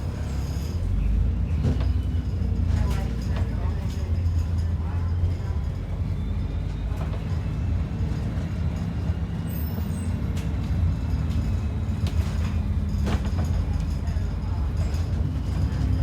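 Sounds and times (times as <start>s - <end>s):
bus diesel engine hum: 0.0s - 16.0s.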